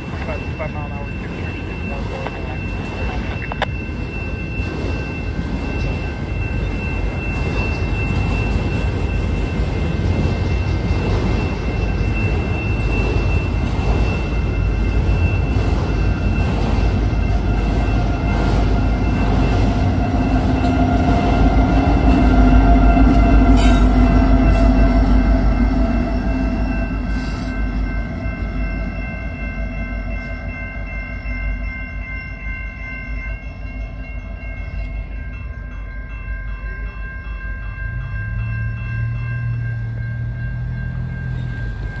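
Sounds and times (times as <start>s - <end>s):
crossing bell ringing: 0.0s - 42.0s
freight train rumbling by: 0.0s - 42.0s.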